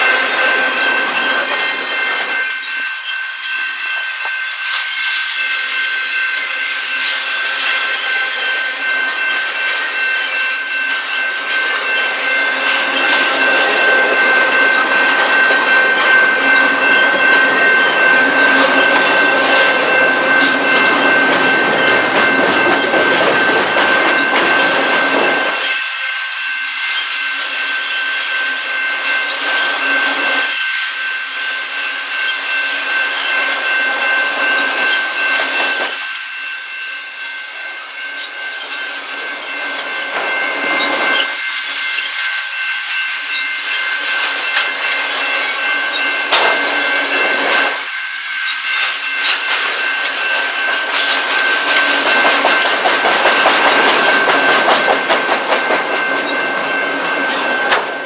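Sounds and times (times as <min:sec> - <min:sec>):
high-pitched ringing tone: 0:00.0 - 0:53.0, 0:53.7 - 0:58.0
freight train rumbling past: 0:00.0 - 0:58.0.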